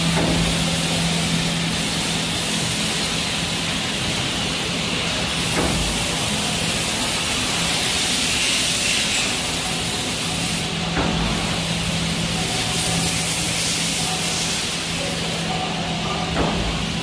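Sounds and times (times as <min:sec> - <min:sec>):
machine mechanical hiss: 0:00.0 - 0:17.0.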